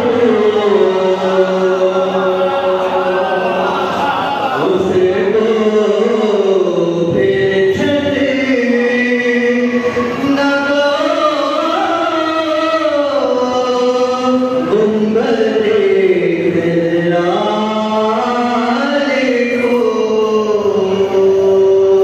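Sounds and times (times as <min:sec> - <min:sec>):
person chanting: 0:00.0 - 0:22.0.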